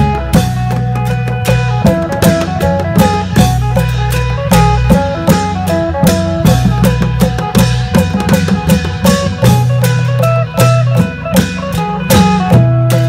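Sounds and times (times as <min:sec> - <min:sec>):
driving drum beat: 0:00.0 - 0:13.0
plucked strings: 0:00.0 - 0:13.0.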